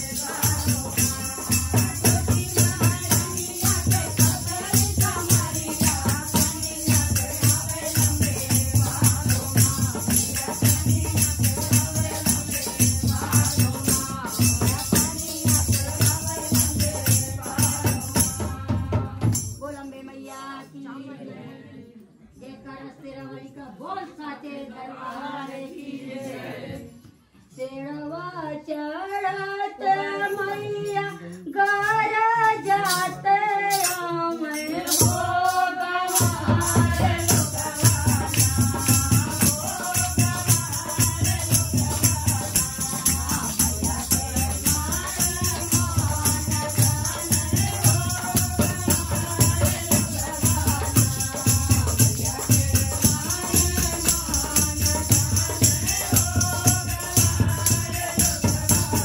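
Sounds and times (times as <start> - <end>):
song accompaniment with steady beat: 0.0 - 19.7, 30.9 - 59.0
jingling percussion: 0.0 - 20.1, 30.2 - 59.0.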